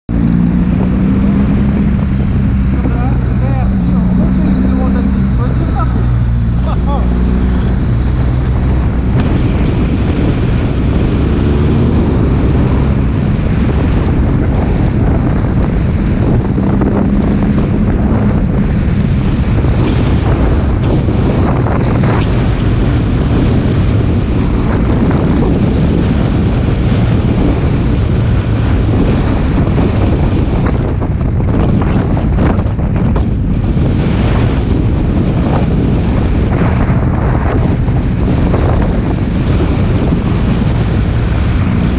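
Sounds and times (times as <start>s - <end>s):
low motorcycle engine drone: 0.0s - 41.9s
road noise: 0.0s - 41.9s
wind buffeting microphone: 0.1s - 41.9s.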